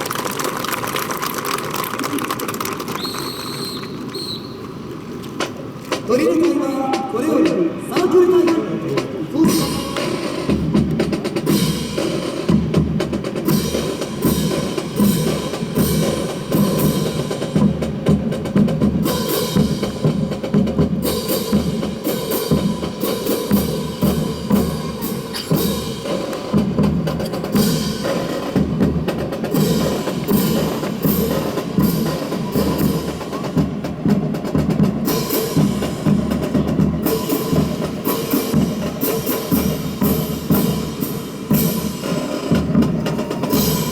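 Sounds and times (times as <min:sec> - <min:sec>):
snare drums: 0:00.0 - 0:43.9.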